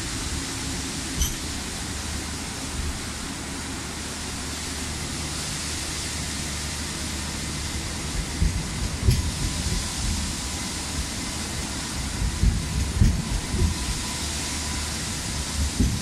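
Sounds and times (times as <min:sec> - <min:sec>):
tram rolling past: 0:00.0 - 0:16.0.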